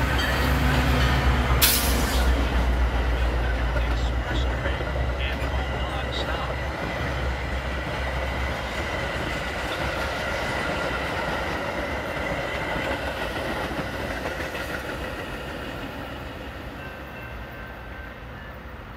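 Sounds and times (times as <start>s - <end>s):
train wheels rushing on rails: 0.0s - 18.9s.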